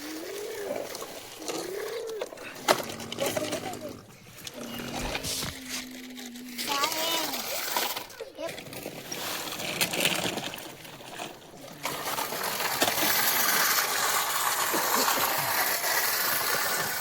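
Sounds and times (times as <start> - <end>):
stone chips pouring and rattling: 0.0 - 17.0.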